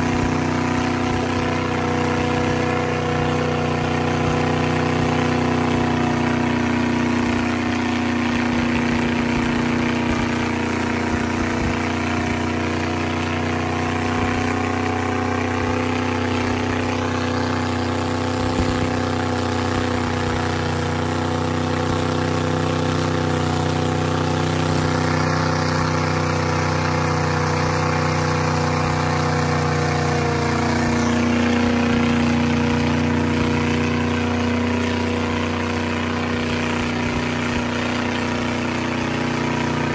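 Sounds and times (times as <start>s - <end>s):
tires churning through mud: 0.0s - 39.9s
truck engine running under load: 0.0s - 39.9s.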